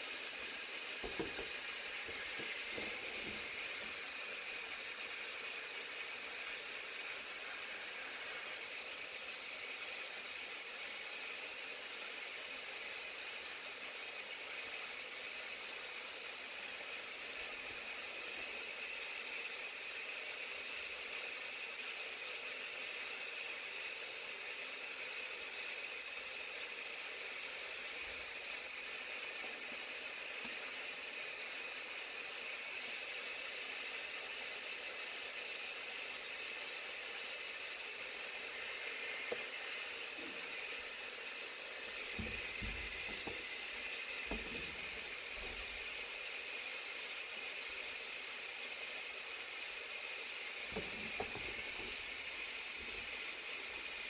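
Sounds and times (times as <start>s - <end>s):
steady hiss: 0.0s - 10.6s, 16.4s - 54.0s
faint high whine: 0.0s - 54.0s.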